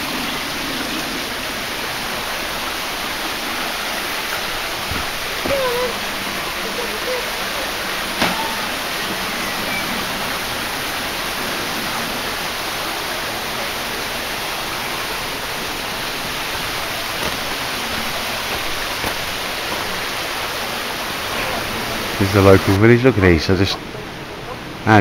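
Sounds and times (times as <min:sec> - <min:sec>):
stream running over stones: 0:00.0 - 0:25.0.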